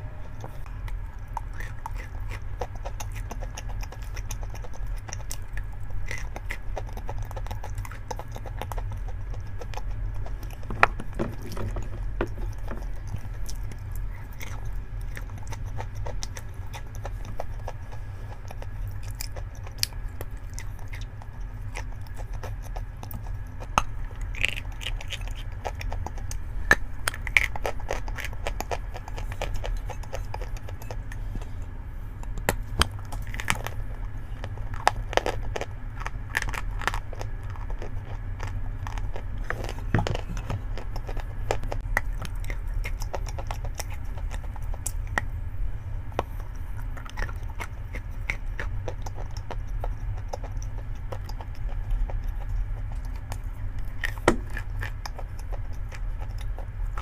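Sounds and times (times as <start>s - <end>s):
steady low hum: 0.0s - 57.0s
chalk being chewed: 0.4s - 45.4s, 46.0s - 57.0s.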